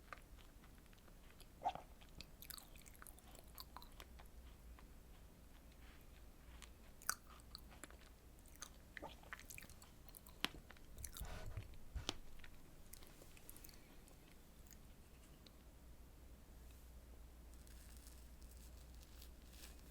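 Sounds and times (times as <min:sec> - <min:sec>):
chewing soft food: 0:00.0 - 0:15.6, 0:17.5 - 0:19.9.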